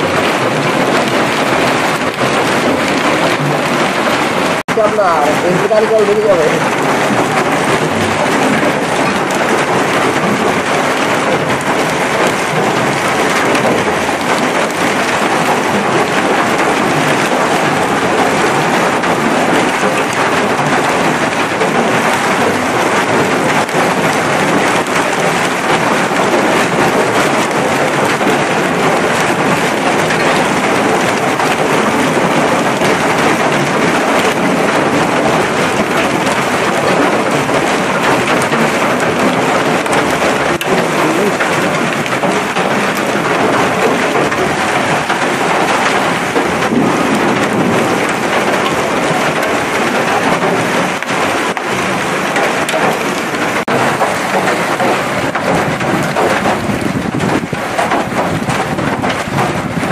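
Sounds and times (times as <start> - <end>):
hailstones falling on railway track: 0.0 - 59.9.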